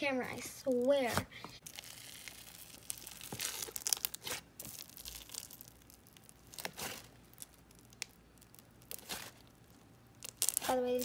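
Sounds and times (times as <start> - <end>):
hand squishing slime: 0.7 - 11.0.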